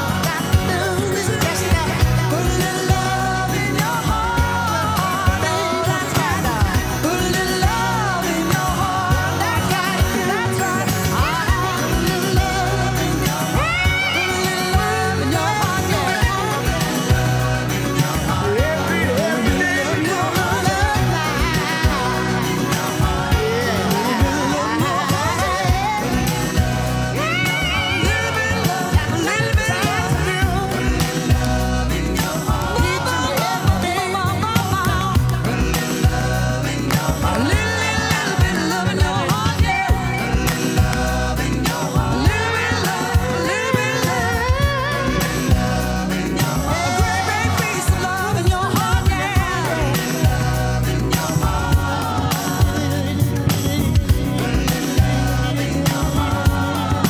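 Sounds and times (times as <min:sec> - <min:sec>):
pop song with singing: 0:00.0 - 0:57.0.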